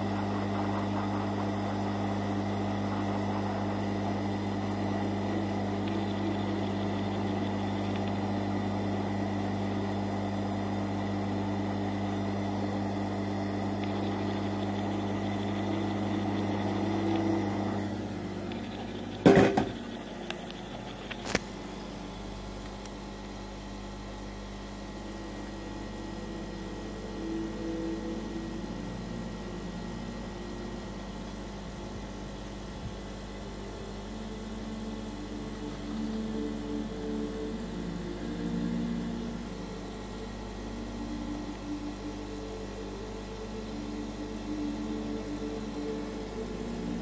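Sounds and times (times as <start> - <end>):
hot-air station blowing: 0.0 - 47.0.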